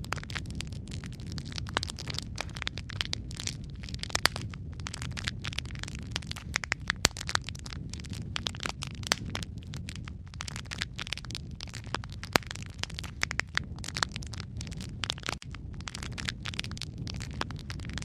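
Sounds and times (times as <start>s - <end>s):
low rumble of burning: 0.0s - 18.0s
wood fire crackling and popping: 0.0s - 18.0s.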